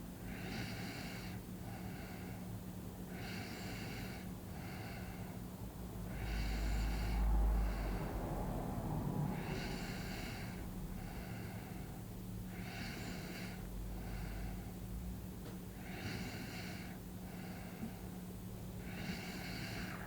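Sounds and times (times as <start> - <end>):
steady low hum: 0.0 - 20.0
person breathing in sleep: 0.3 - 14.9, 15.7 - 18.2, 18.8 - 20.0.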